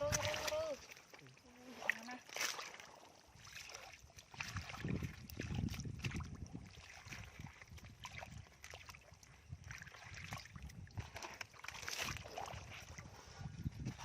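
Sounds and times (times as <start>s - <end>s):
shallow water sloshing and splashing: 0.0s - 14.0s.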